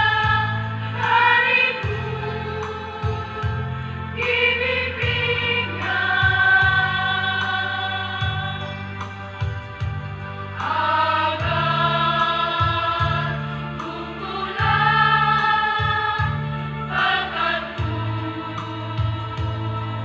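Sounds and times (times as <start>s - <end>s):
choir singing held notes: 0.0s - 8.8s, 10.5s - 20.0s
low sustained bass notes: 0.0s - 20.0s.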